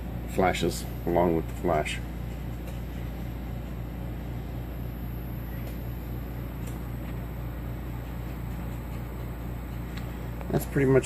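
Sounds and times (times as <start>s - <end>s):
steady low pulsing hum: 0.0s - 11.0s.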